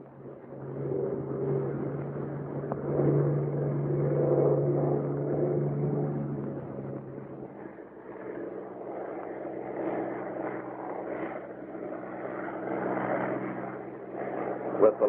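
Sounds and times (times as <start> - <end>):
aircraft engine droning in flight: 0.0 - 15.0.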